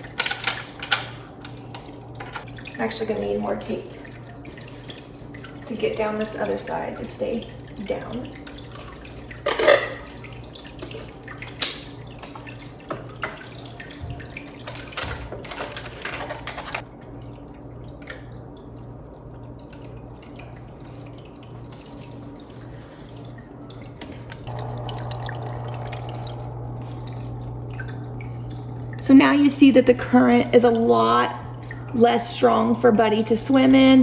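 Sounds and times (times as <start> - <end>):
aquarium filter humming: 0.0 - 34.0
water splashing and trickling: 0.0 - 34.0.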